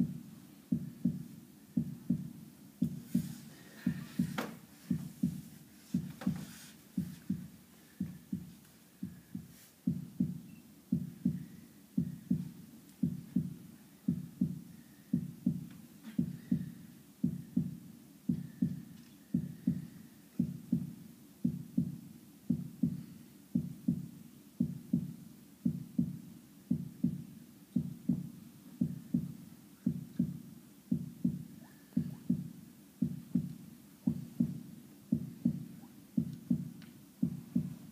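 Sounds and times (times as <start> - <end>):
heartbeat thuds: 0.0 - 37.9.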